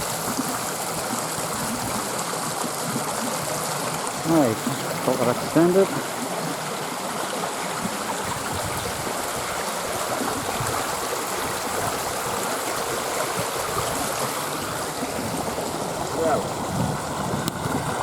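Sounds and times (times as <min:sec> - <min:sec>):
small stream flowing: 0:00.0 - 0:18.0.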